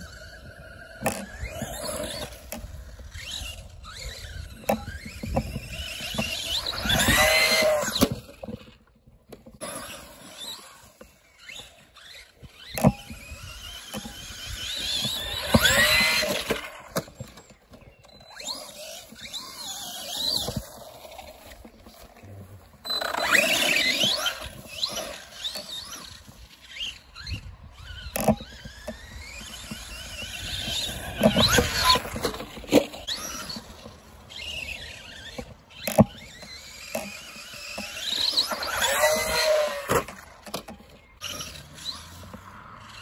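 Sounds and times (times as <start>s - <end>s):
rc truck motor whining: 0.0s - 43.0s.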